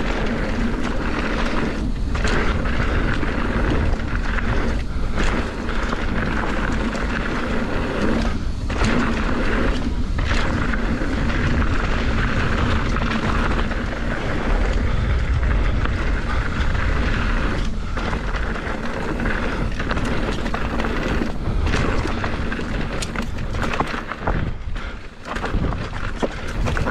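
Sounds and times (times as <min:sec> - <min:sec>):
bicycle tires rolling over dirt: 0:00.0 - 0:26.9
wind rushing over microphone: 0:00.0 - 0:26.9.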